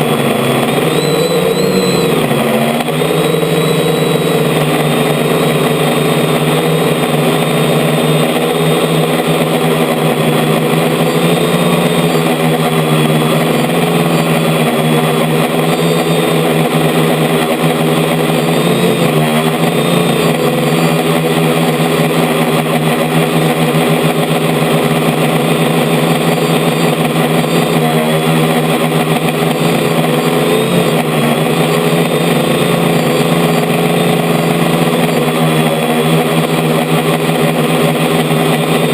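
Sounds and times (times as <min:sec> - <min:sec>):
drone propellers humming: 0:00.0 - 0:38.9.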